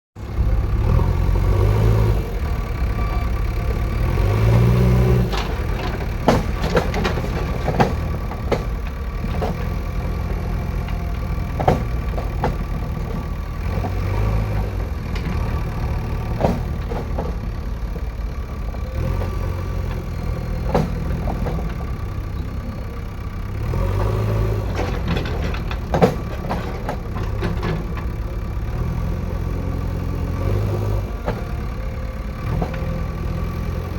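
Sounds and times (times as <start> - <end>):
diesel engine running: 0.2 - 33.9
metallic clanks and knocks: 2.7 - 28.5, 30.9 - 33.4.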